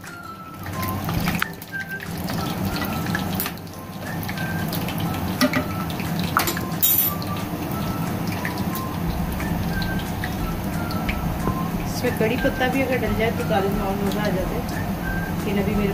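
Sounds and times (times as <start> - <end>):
spices sizzling in hot oil: 0.0 - 15.9.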